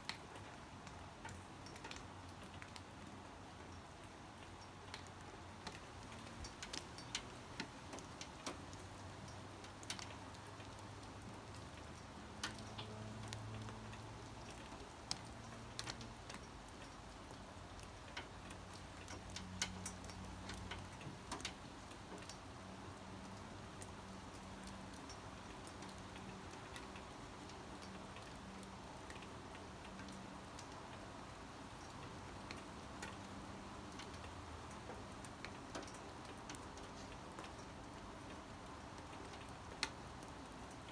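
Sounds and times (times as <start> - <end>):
raindrops ticking on hard surface: 0.0 - 40.9
steady hiss of rain: 0.0 - 40.9.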